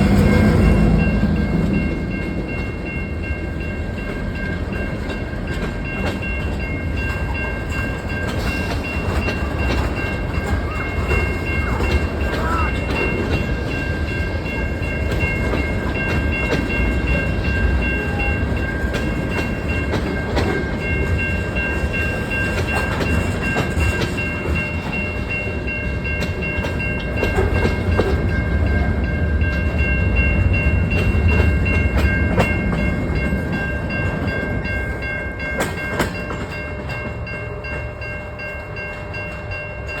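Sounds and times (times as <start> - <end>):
train cars rumbling past: 0.0 - 40.0
train wheel clicks: 3.9 - 28.8, 29.4 - 34.7, 35.4 - 37.3.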